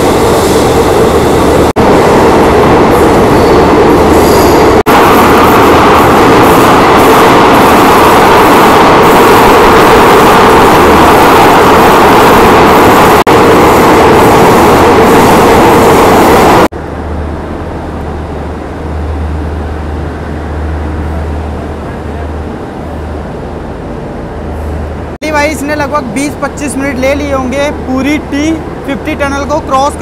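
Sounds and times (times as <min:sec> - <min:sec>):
train rushing through tunnel: 0:00.0 - 0:30.0.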